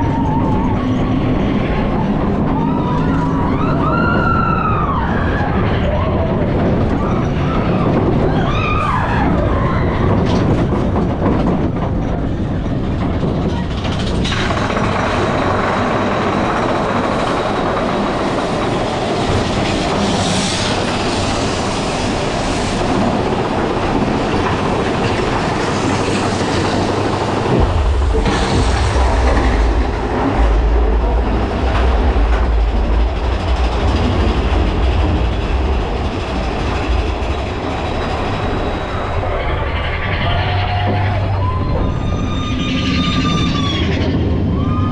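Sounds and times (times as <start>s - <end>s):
heavy deep rumble: 0.0s - 44.9s
roller coaster wheels clattering: 0.0s - 44.9s.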